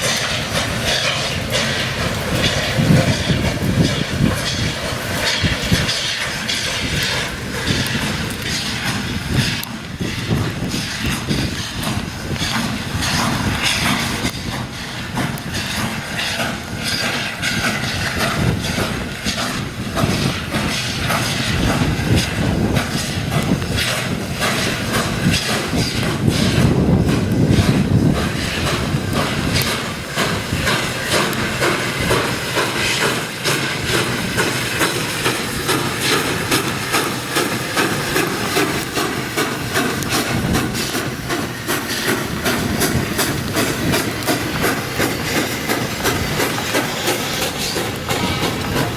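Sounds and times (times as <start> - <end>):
low train rumble: 0.0 - 48.9
steam hissing: 0.0 - 48.9
train wheels clanking over rail joints: 0.0 - 48.9.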